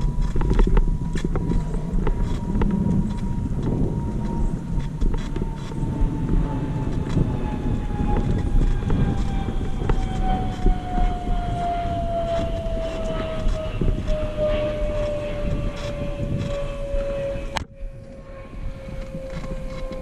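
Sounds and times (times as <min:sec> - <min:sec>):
trail noise with knocks: 0:00.0 - 0:20.0
wind rumble: 0:00.0 - 0:20.0.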